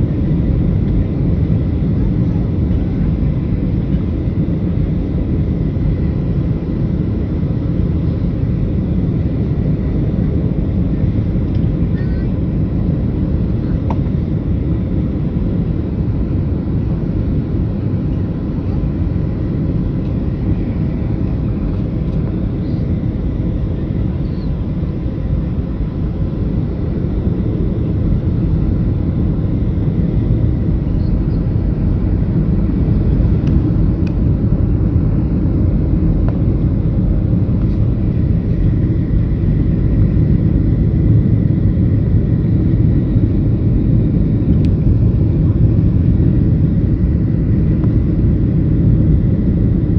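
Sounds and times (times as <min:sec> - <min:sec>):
faint jet whine: 0:00.0 - 0:49.9
jet engine rumble: 0:00.0 - 0:49.9.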